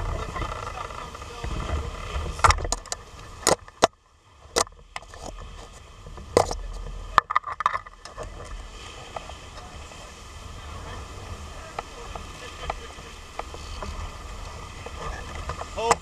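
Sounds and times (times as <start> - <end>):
surf washing over rock underwater: 0.0 - 16.0.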